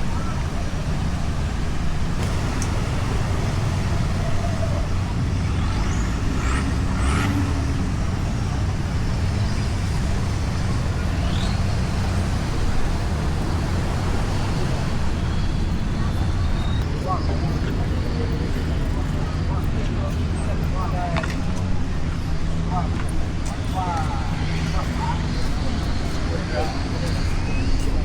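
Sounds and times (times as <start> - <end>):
low road rumble: 0.0 - 28.0.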